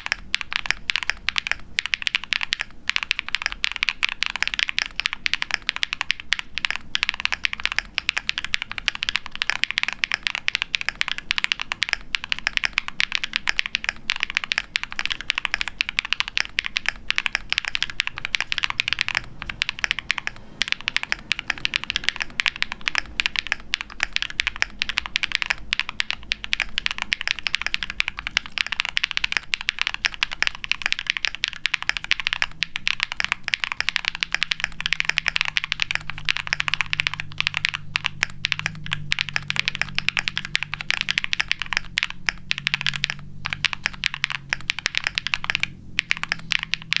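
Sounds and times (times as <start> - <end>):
fast typing on keyboard: 0.0 - 47.0.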